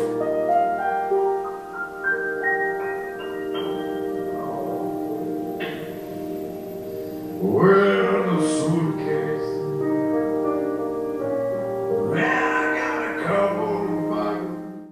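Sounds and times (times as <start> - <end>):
song with singing over chords: 0.0 - 14.9.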